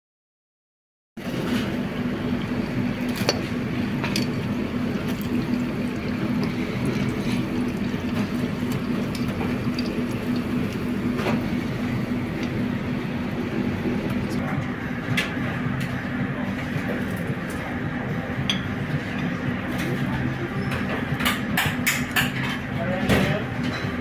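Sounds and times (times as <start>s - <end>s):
constant low hum: 1.2s - 24.0s.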